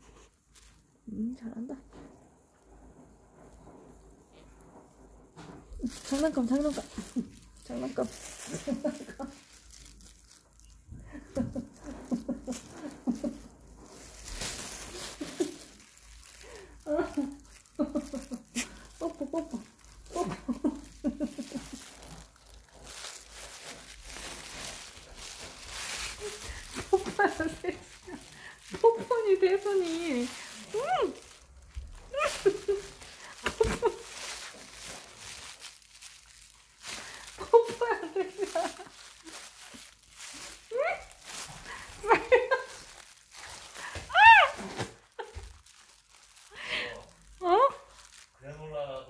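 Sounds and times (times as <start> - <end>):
plastic bag crinkling: 0.0 - 49.0.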